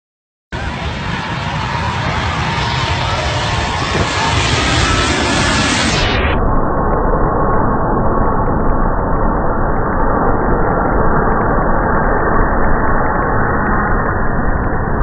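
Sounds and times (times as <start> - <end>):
jet airliner passing overhead: 0.6 - 15.0.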